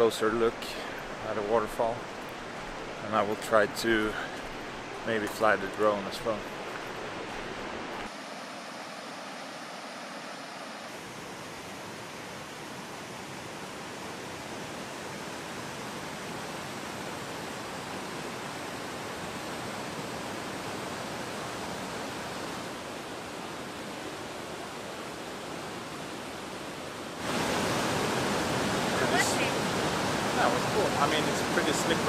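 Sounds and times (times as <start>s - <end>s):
river rapids rushing: 0.0s - 32.0s.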